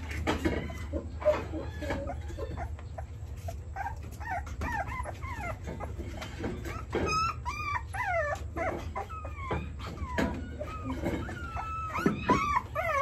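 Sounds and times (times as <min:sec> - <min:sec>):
puppies whimpering: 0:00.0 - 0:13.0.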